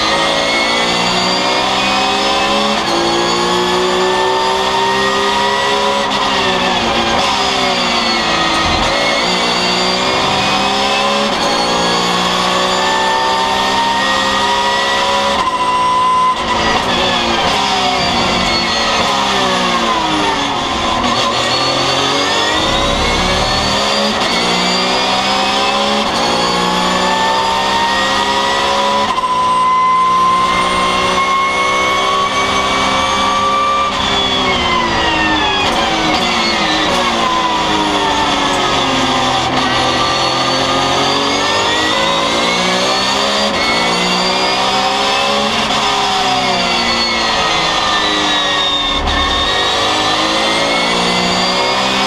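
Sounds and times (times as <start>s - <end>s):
race car engine revving: 0.0s - 29.2s, 29.8s - 52.0s.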